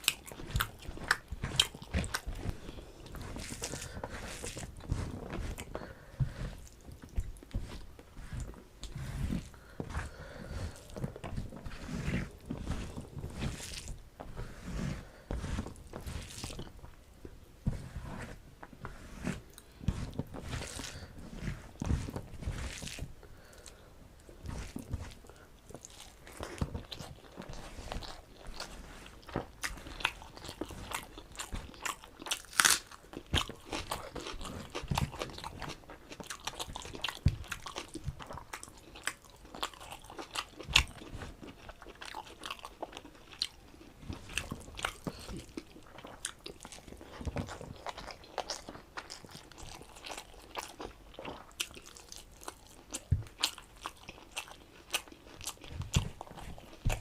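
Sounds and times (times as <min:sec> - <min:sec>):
close chewing and biting: 0:00.0 - 0:17.3, 0:19.2 - 0:57.0.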